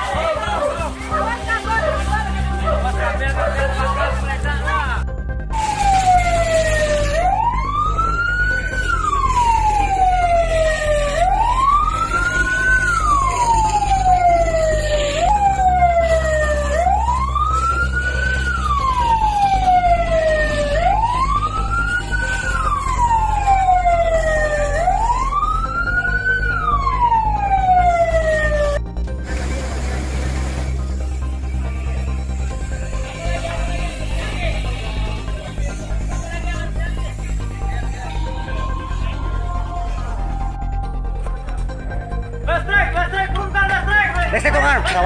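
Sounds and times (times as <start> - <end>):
emergency siren wailing: 0.0 - 45.0.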